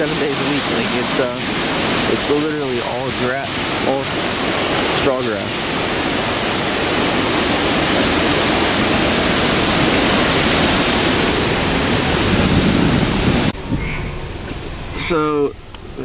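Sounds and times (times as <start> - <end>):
air rushing on microphone: 0.0 - 16.0
car road noise: 0.0 - 16.0.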